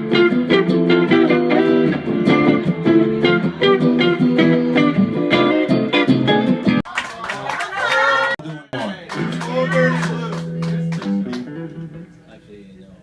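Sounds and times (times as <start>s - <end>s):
live blues guitar jam: 0.0s - 6.8s, 8.7s - 12.5s.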